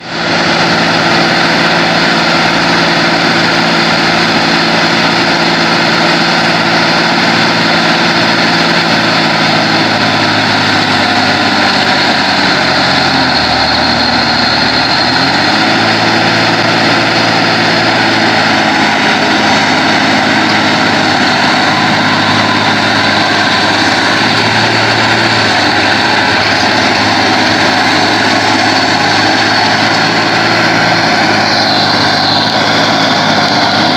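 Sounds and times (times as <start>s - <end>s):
heavy diesel truck engine: 0.0s - 33.9s.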